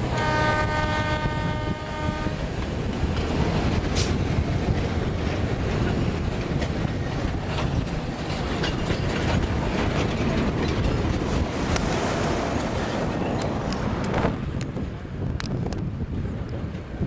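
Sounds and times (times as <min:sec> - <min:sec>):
train rumbling along track: 0:00.0 - 0:17.0
wheels clicking over rails: 0:02.4 - 0:17.0.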